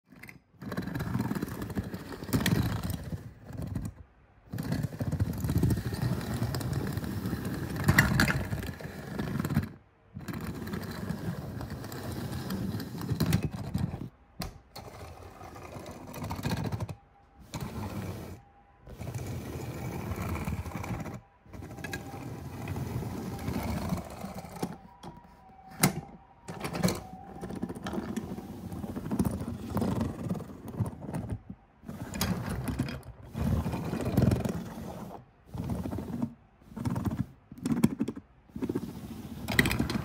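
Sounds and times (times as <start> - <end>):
toy car wheels rumbling on ridges: 0.2 - 14.1, 14.7 - 40.0.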